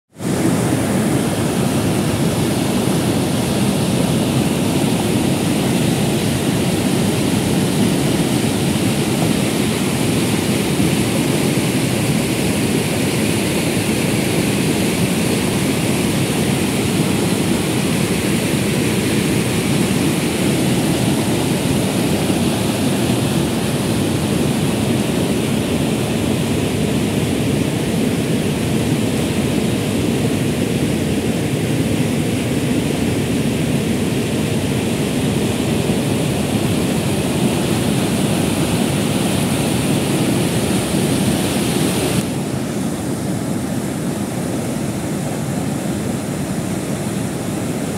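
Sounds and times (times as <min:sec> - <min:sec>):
river rushing over rocks: 0:00.1 - 0:47.9.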